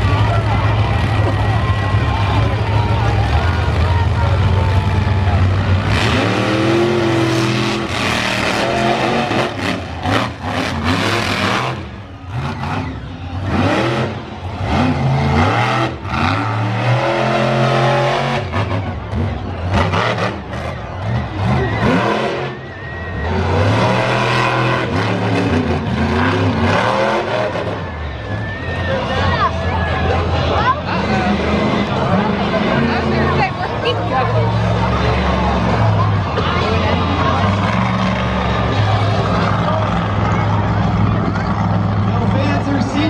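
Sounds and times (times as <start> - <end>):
truck engine revving hard: 0.0 - 43.0.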